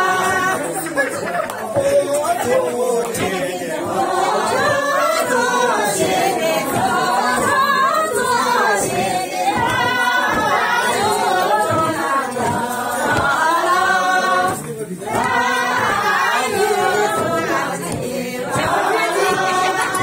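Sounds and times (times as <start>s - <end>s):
women singing without instruments: 1.6s - 20.0s.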